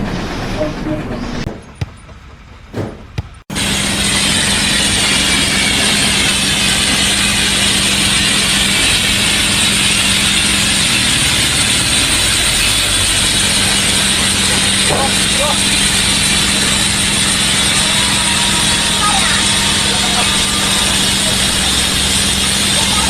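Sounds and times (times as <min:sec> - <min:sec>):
loud machine hum: 0:02.8 - 0:23.0.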